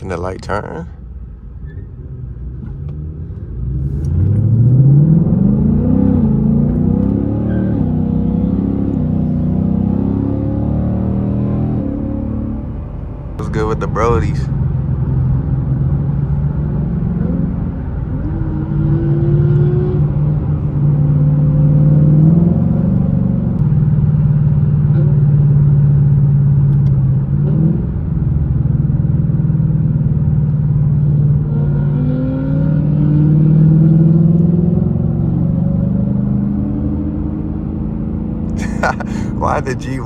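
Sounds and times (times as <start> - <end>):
car engine accelerating: 2.0 - 40.0.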